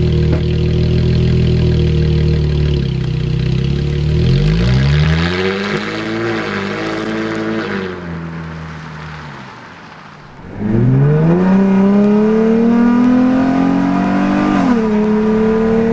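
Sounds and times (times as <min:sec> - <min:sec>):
car engine accelerating: 0:00.0 - 0:15.9.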